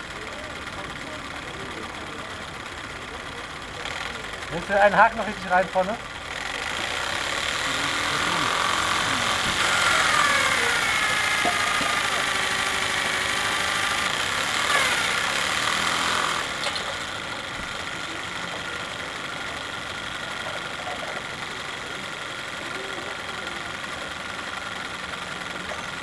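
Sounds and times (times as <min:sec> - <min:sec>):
steam winch whining: 0:00.0 - 0:26.0.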